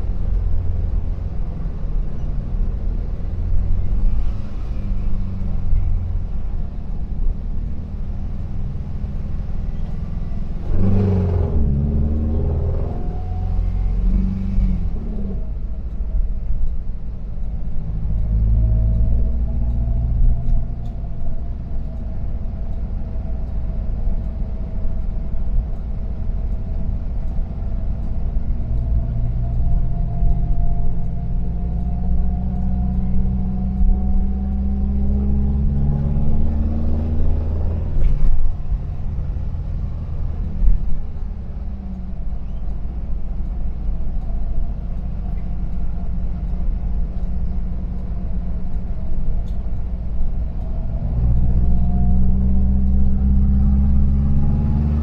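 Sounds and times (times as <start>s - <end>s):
road rumble: 0.0s - 55.0s
van engine running: 0.0s - 55.0s.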